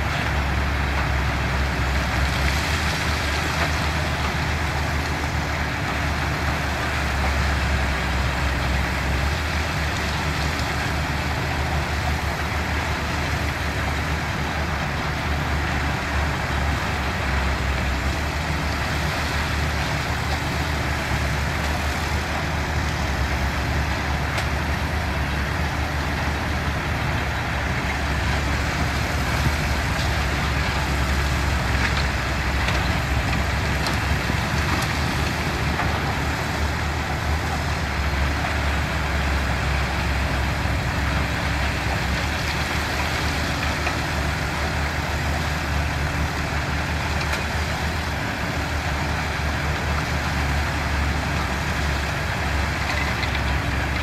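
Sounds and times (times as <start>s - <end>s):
construction machinery engines droning: 0.0s - 54.0s.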